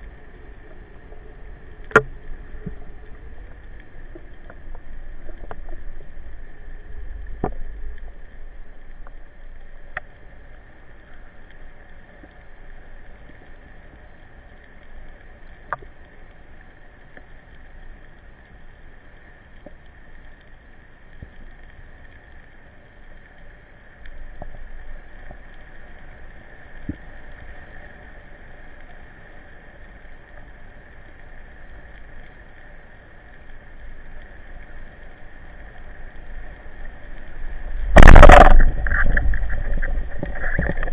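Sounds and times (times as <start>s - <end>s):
low underwater rumble: 0.0s - 40.9s.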